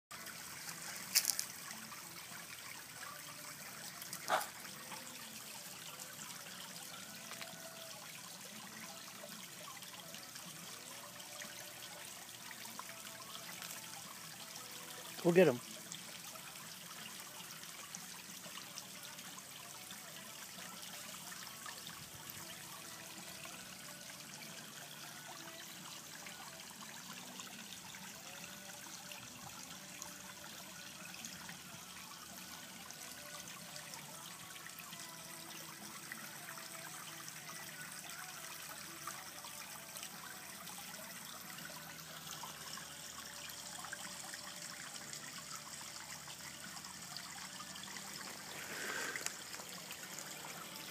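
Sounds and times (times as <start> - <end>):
water trickling: 0.1 - 50.9.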